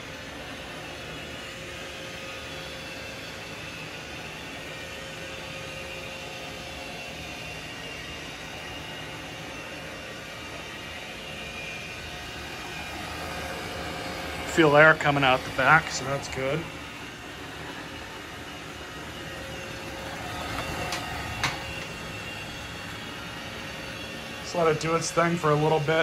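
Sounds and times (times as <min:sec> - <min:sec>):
robot vacuum whirring: 0:00.0 - 0:26.0.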